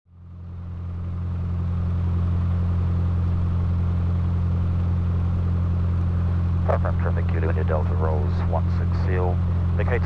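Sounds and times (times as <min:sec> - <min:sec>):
light aircraft engine drone: 0:00.1 - 0:10.0.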